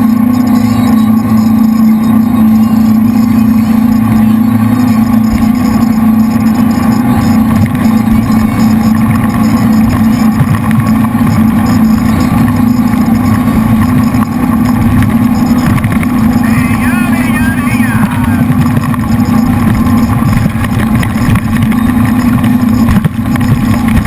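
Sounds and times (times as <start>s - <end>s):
boat engines droning: 0.0s - 24.0s.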